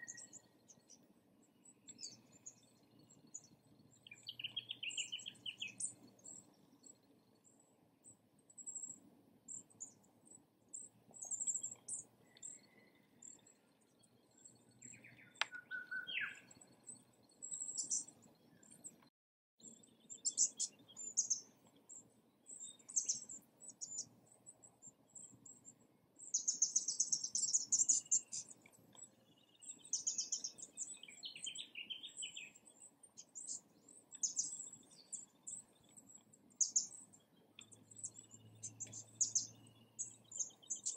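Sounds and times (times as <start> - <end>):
birds chirping: 0.0 - 7.6, 8.6 - 19.0, 19.6 - 40.9.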